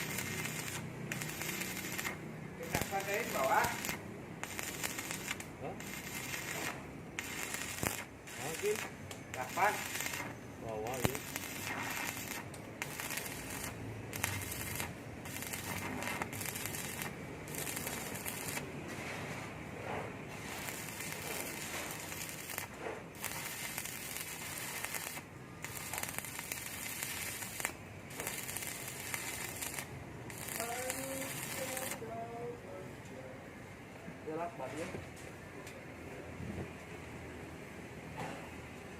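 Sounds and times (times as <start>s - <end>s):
welding arc crackling sizzle: 0.0s - 32.2s.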